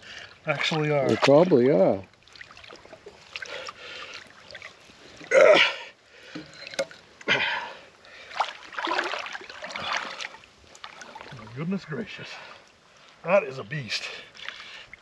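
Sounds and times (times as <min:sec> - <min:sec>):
water streaming off anchor: 0:00.0 - 0:05.5, 0:06.1 - 0:13.3
water sloshing and splashing: 0:00.0 - 0:15.0.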